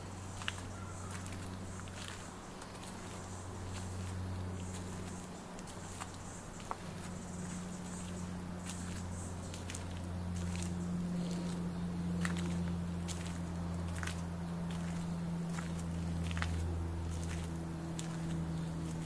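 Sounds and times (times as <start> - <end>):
footsteps on a bush track: 0.0 - 19.0
road traffic hum: 0.0 - 19.0.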